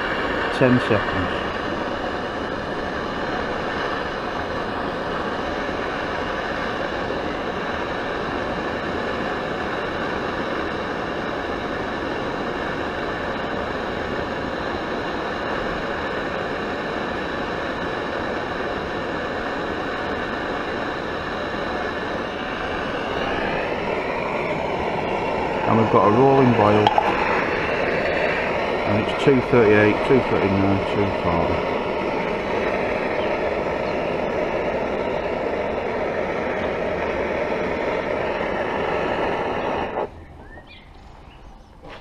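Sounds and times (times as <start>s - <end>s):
gas stove burner hissing: 0.0s - 40.9s.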